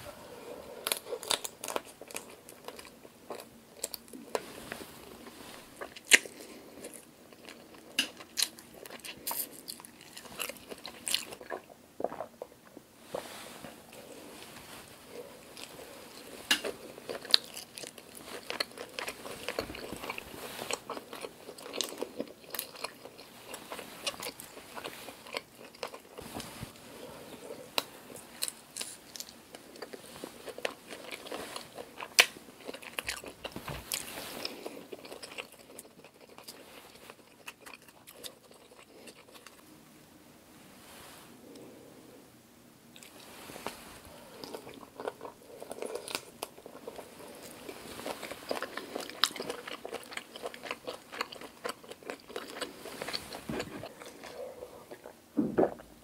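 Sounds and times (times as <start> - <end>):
biting and chewing shrimp: 0.6 - 4.4, 5.2 - 12.5, 15.1 - 26.2, 27.3 - 39.7, 44.3 - 55.8.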